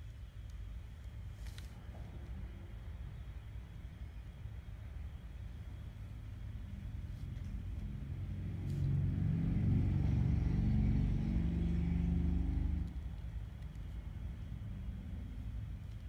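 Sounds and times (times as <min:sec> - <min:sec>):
low engine-like rumble: 0:00.0 - 0:16.0.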